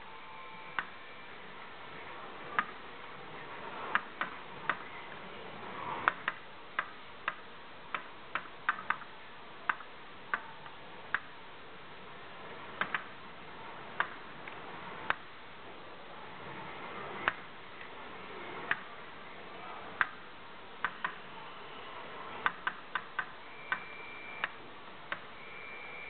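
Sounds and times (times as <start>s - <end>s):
background noise: 0.0s - 26.0s.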